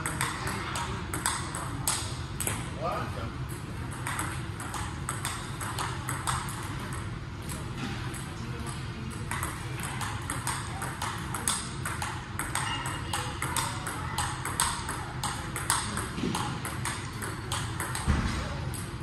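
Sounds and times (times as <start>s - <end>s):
table tennis ball clicking: 0.0s - 2.6s, 3.9s - 18.1s.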